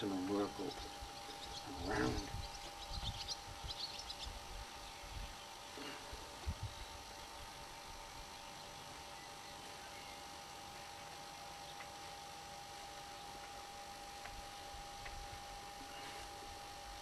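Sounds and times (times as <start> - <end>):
background hiss: 0.0 - 17.0
faint steady hum: 0.0 - 17.0.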